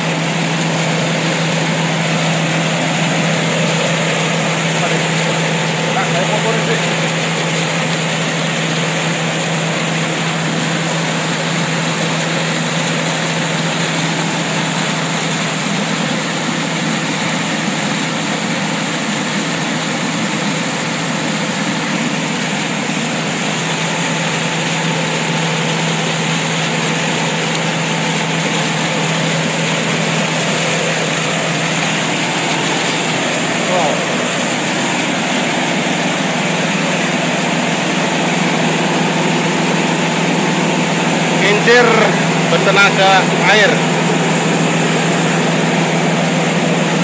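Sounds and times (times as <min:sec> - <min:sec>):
water rushing: 0:00.0 - 0:47.0
water turbine humming: 0:00.0 - 0:47.0.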